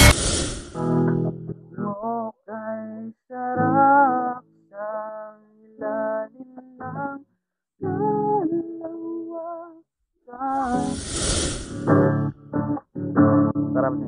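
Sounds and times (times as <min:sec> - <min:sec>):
person singing a slow melody: 0:01.7 - 0:11.2, 0:11.8 - 0:14.0.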